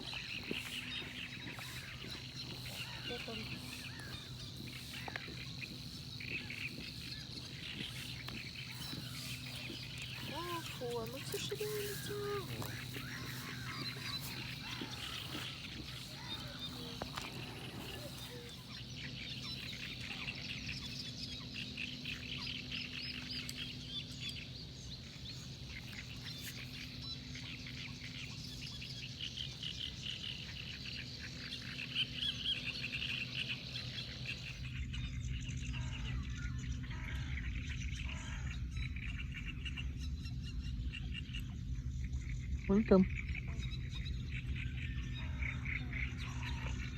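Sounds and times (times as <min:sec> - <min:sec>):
birds chirping: 0:00.0 - 0:46.9
frogs calling: 0:00.0 - 0:46.9
steady low hum: 0:00.0 - 0:46.9.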